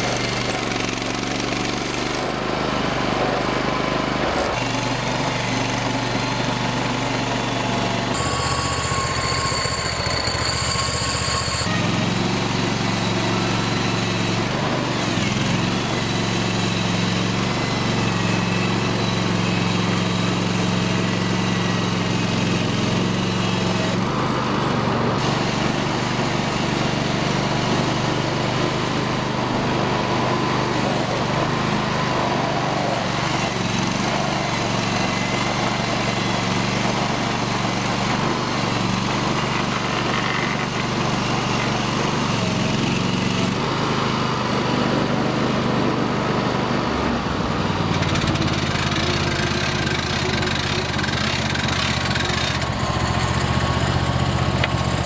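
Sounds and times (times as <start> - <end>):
sawmill engine milling log: 0.0 - 55.0.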